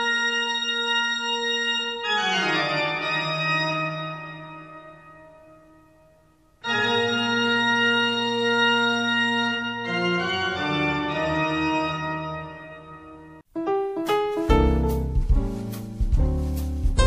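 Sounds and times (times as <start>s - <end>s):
organ chords: 0.0s - 17.0s.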